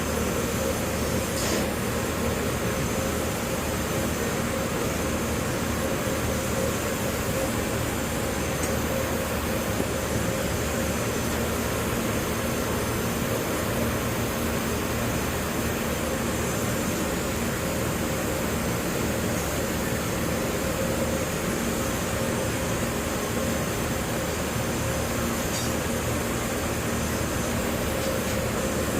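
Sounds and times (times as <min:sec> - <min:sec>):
steady machine hum: 0:00.0 - 0:28.9.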